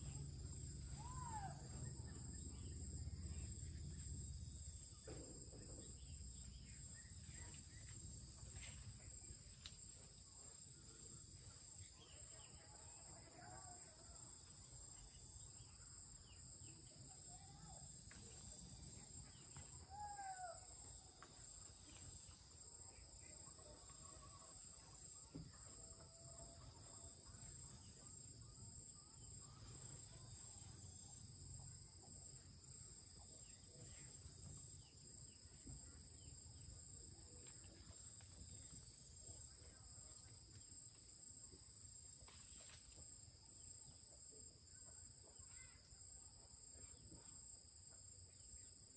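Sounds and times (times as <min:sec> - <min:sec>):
high-pitched insect chorus: 0:00.0 - 0:48.9.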